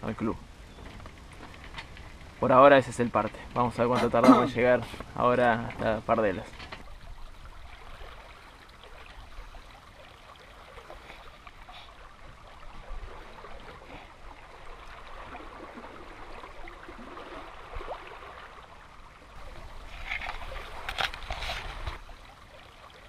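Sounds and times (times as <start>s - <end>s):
water lapping against boat hull: 0.2s - 23.0s.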